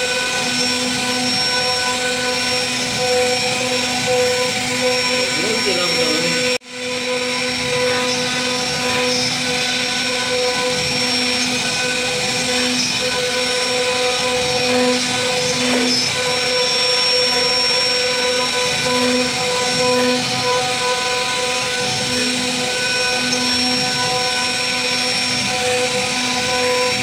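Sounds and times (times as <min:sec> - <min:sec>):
router spindle whining: 0:00.0 - 0:27.0.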